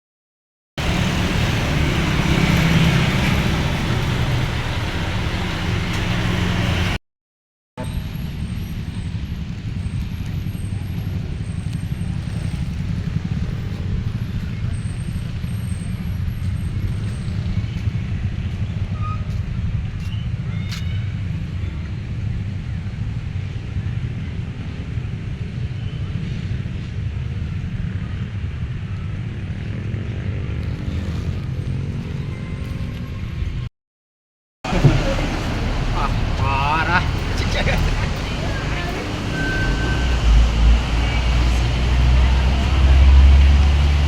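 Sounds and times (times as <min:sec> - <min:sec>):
large vehicle engine rumble: 0:00.8 - 0:07.0, 0:07.8 - 0:33.7, 0:34.6 - 0:44.0.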